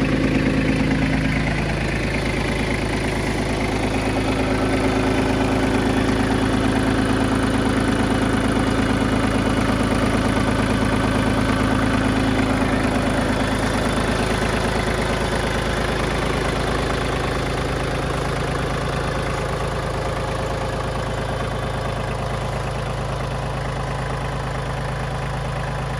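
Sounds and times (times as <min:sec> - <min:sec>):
diesel tractor engine idling: 0:00.0 - 0:25.9.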